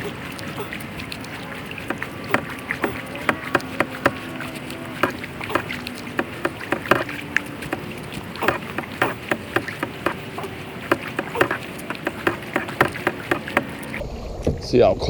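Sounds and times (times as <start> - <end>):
irregular clicks and taps: 0.0 - 14.0
paddle splashing water: 0.0 - 14.0.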